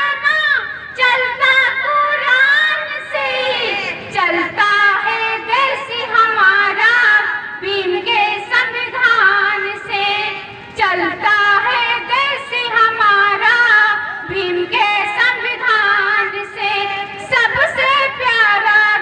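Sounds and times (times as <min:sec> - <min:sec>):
girls singing into microphones: 0:00.0 - 0:19.0.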